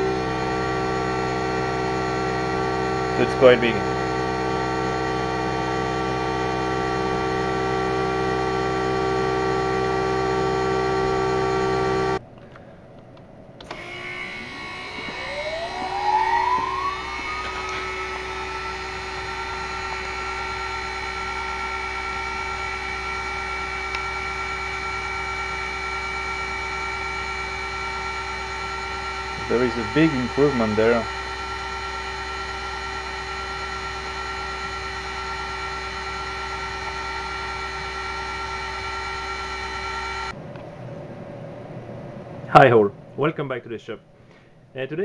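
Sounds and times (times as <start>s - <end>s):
machine pump humming: 0.0s - 43.1s
spindle whining up in pitch: 0.0s - 43.2s.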